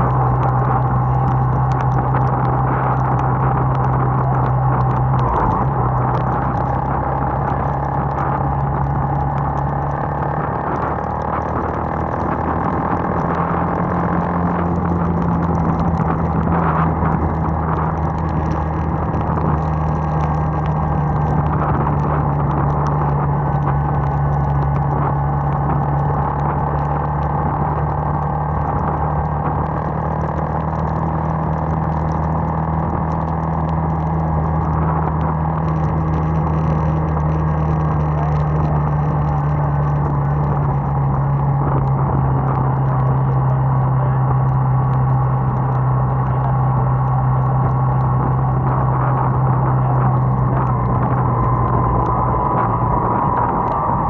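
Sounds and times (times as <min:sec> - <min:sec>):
motorcycle engine cruising: 0:00.0 - 0:54.0
tyres on wet road: 0:00.0 - 0:54.0.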